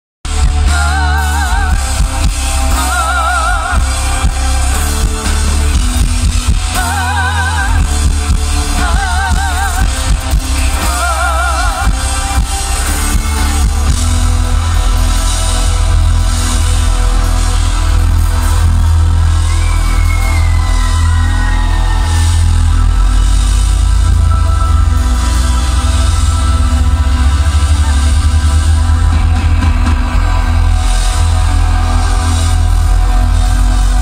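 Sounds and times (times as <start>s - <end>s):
live pop band playing: 0.2s - 34.0s.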